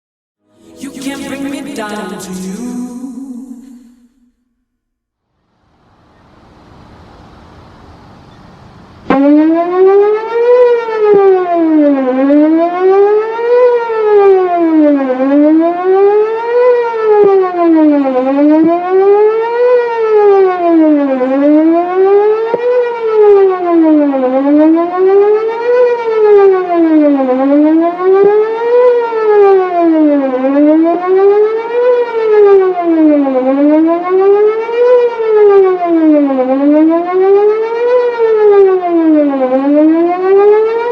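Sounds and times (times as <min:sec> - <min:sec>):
warning siren wailing: 0:00.5 - 0:04.3, 0:05.4 - 0:40.9.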